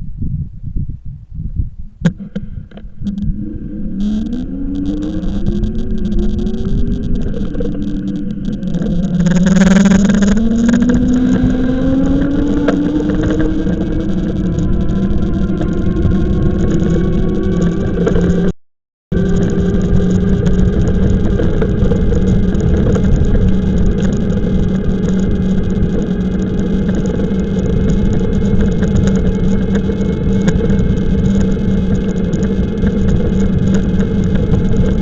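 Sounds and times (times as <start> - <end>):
wind rumble on microphone: 0.0 - 18.5, 19.1 - 35.0
electric bike motor whining: 2.6 - 18.5, 19.2 - 35.0.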